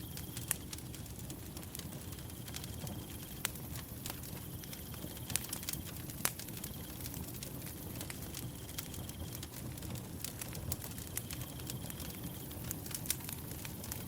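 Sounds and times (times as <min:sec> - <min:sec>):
firewood burning with crackles: 0:00.0 - 0:14.0.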